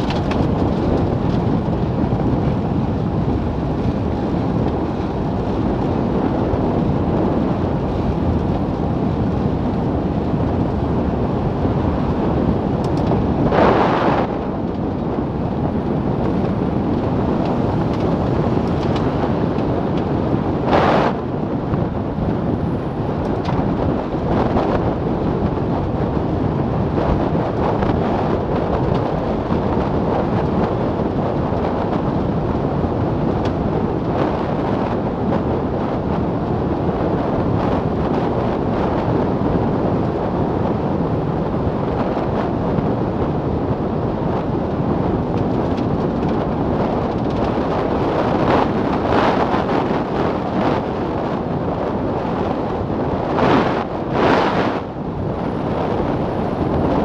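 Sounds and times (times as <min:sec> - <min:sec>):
tyre and road noise: 0:00.0 - 0:57.0
wind rushing over microphone: 0:00.0 - 0:57.0.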